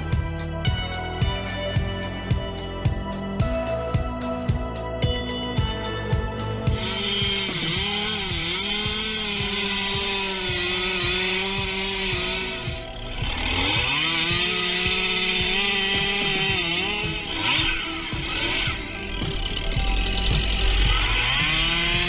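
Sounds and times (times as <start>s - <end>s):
background music: 0.0s - 22.0s
engine running at high revs: 0.0s - 22.0s.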